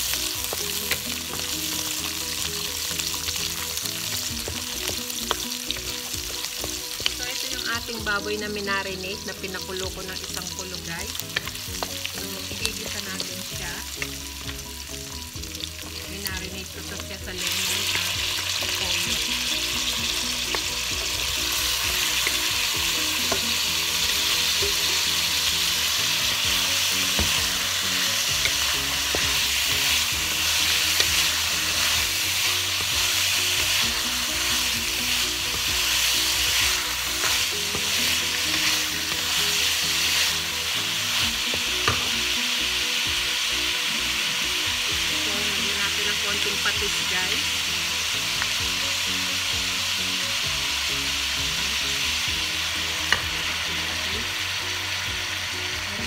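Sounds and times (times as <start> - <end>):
meat sizzling in a frying pan: 0.0 - 56.0.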